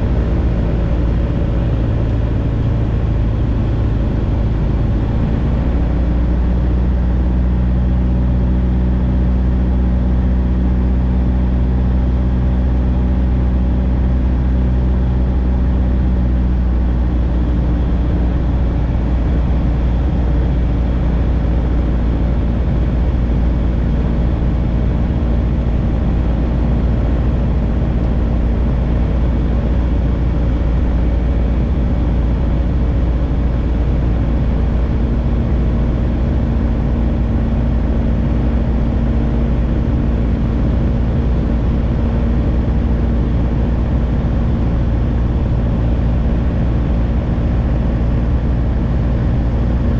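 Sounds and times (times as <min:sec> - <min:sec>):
light airplane engine droning: 0:00.0 - 0:49.9.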